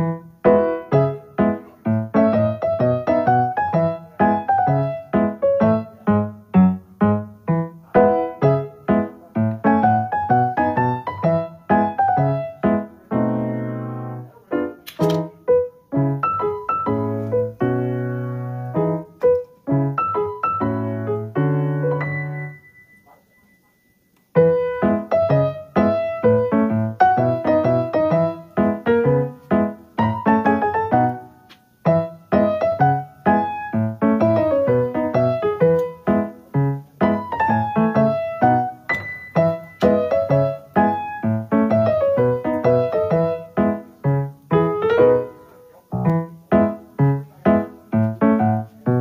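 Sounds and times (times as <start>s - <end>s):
piano music: 0.0s - 49.0s.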